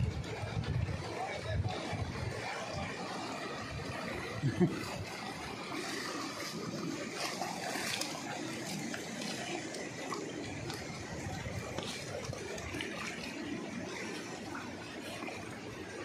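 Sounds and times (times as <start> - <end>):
splashing from wading legs: 2.2 - 16.0.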